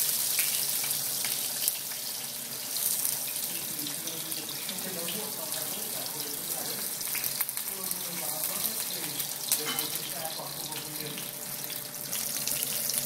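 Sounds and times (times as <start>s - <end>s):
tofu sizzling in oil: 0.0s - 13.0s.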